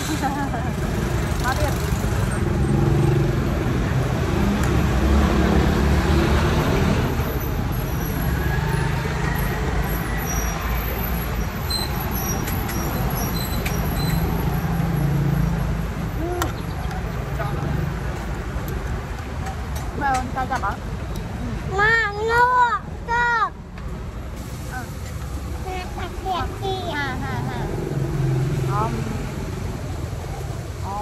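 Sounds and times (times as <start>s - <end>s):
passing traffic rumble: 0.0s - 31.0s.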